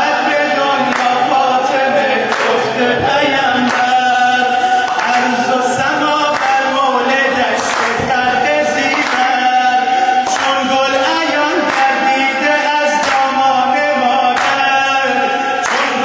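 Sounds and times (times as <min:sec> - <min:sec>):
man singing a devotional chant: 0:00.0 - 0:16.0.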